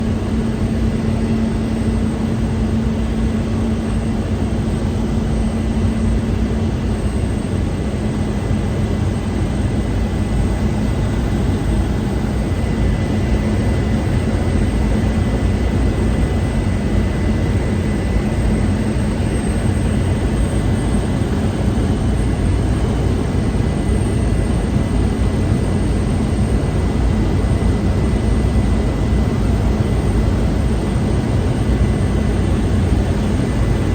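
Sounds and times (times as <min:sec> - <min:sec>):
turboprop engine and propeller drone: 0:00.0 - 0:33.9.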